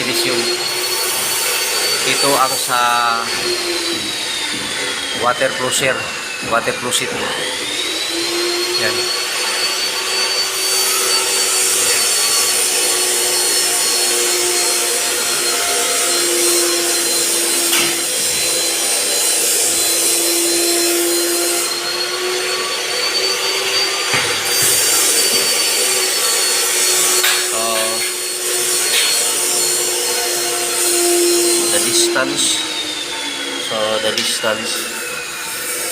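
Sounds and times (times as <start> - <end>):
power tool motor whining: 0.0 - 35.9.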